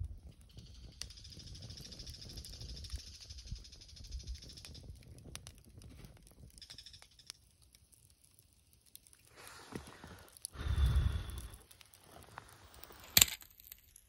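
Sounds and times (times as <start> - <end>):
campfire crackling: 0.0 - 14.0
sharp fire pops: 0.0 - 14.0.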